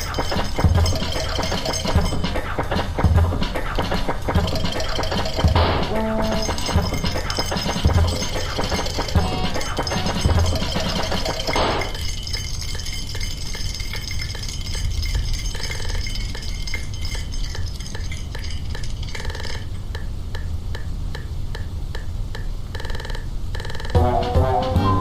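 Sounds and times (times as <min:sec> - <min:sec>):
regular clicking: 0:00.0 - 0:24.4.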